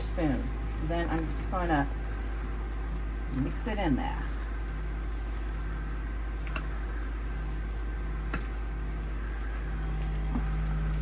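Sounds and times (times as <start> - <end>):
steady low hum: 0.0 - 11.0
spoon stirring thick mixture: 0.1 - 11.0.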